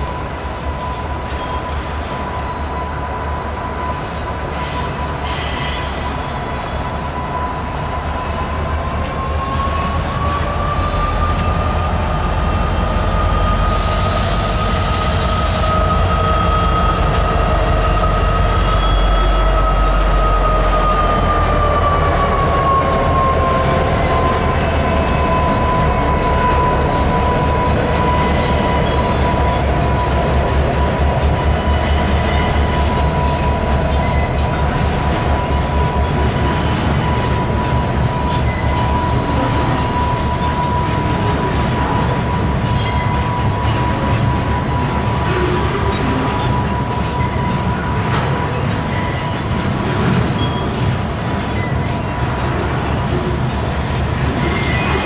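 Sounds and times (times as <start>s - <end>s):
rail cars rolling by: 0.0s - 55.0s.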